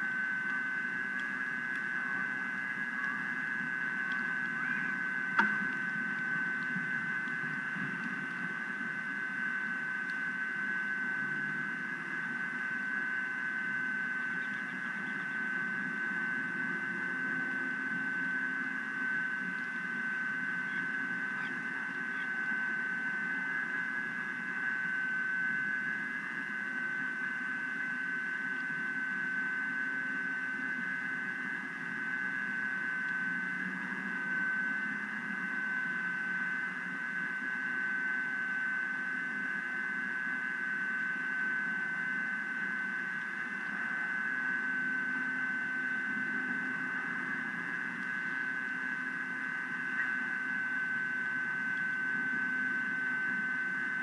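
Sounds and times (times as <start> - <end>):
high-pitched electronic whine: 0.0 - 54.0.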